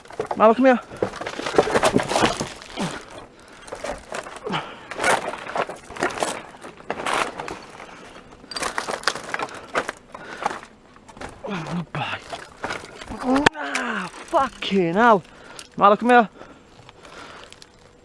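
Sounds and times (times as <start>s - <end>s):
footsteps crunching on debris: 0.0s - 18.0s.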